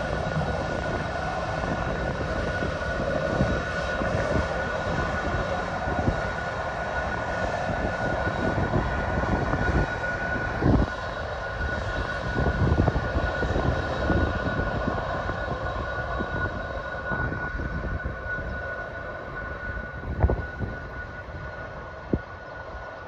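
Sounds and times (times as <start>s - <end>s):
jet engines rumbling and whining: 0.0s - 23.0s.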